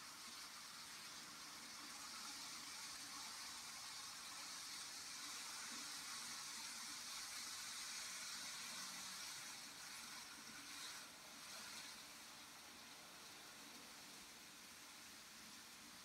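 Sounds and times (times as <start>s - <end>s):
model train high whir and hiss: 0.0s - 16.0s.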